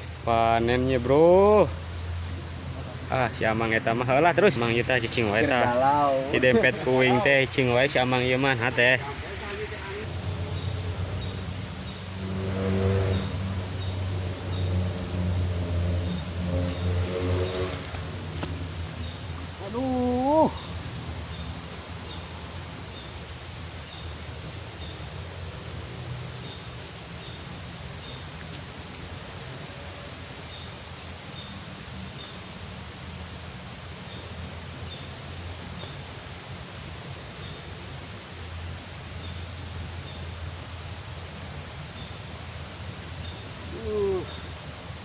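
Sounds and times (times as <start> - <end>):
flowing river water: 0.0 - 45.0.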